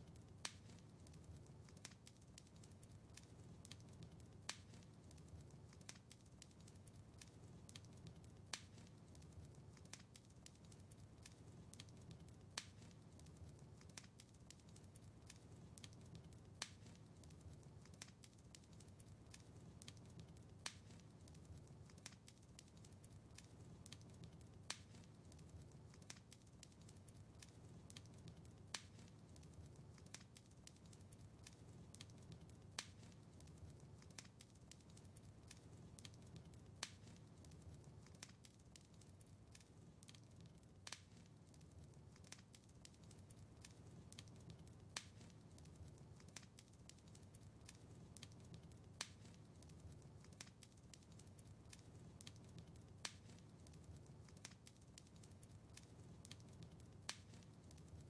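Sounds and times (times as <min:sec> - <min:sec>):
small pops and ticks from fire: 0:00.0 - 0:58.0
soft rumble of flames: 0:00.0 - 0:58.0.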